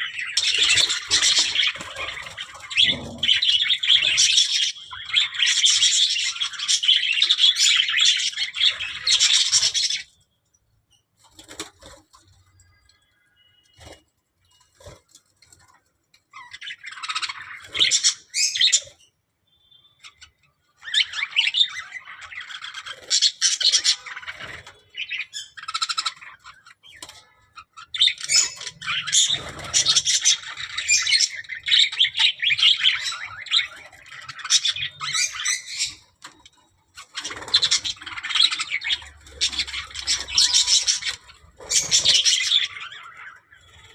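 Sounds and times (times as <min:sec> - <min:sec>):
budgerigars chirping and squawking: 0:00.0 - 0:10.2, 0:16.4 - 0:19.1, 0:20.0 - 0:43.9.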